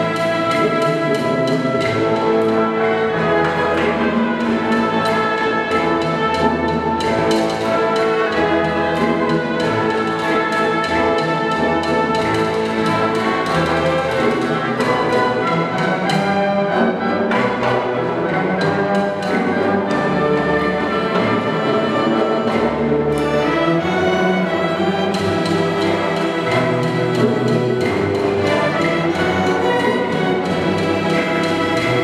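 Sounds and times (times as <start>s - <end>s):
string orchestra playing: 0.0s - 32.0s.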